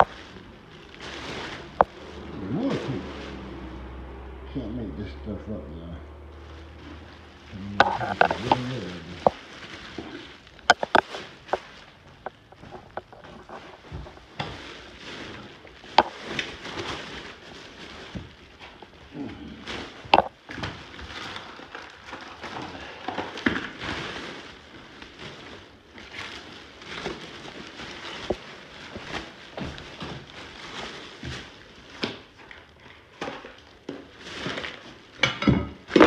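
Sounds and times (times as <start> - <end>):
rubbish rustling and crackling: 0.0 - 5.1, 6.1 - 36.0.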